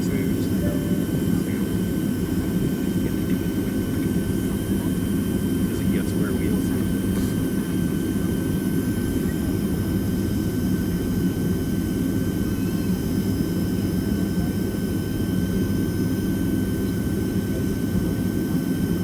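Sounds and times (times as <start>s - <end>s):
faint steady whine: 0.0s - 19.0s
jet engine cabin drone: 0.0s - 19.0s.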